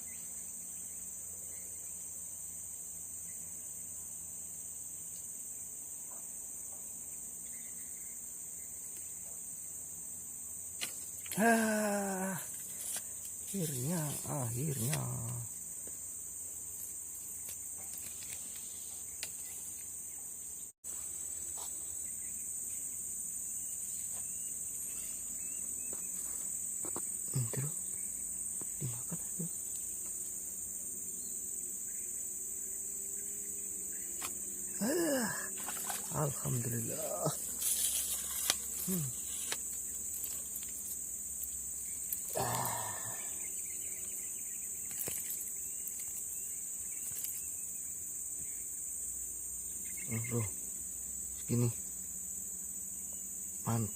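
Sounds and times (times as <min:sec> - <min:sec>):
crickets chirping: 0:00.0 - 0:53.9
high-pitched insect chorus: 0:00.0 - 0:53.9.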